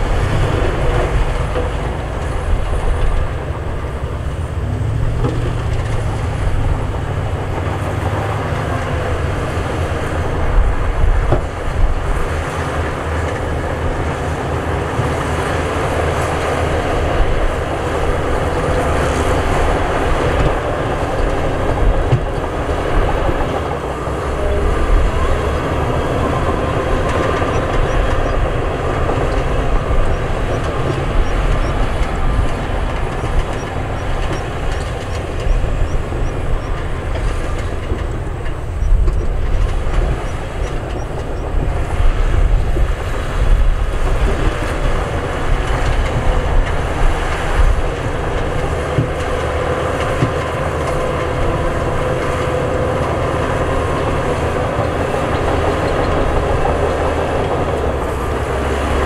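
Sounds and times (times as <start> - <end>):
diesel engine rumble: 0.0 - 59.0
machinery knocks and clatter: 0.0 - 59.0.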